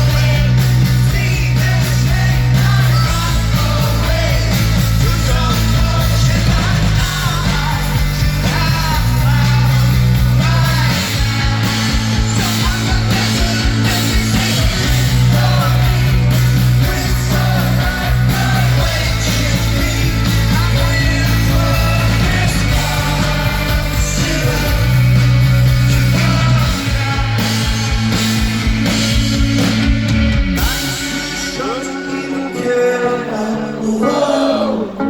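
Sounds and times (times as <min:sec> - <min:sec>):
person singing lead vocal: 0:00.0 - 0:29.6, 0:30.5 - 0:35.0
live rock band playing: 0:00.0 - 0:35.0.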